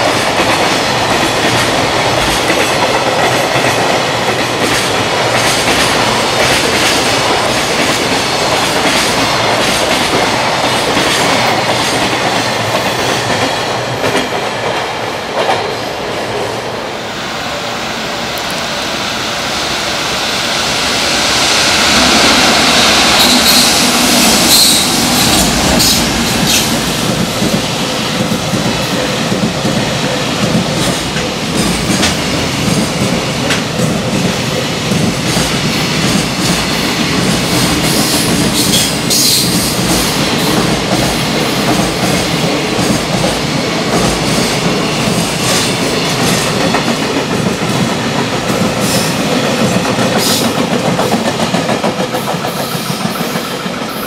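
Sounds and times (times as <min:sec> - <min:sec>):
train wheels clickety-clack: 0:00.0 - 0:16.5, 0:20.6 - 0:54.0
freight train passing: 0:00.0 - 0:54.0.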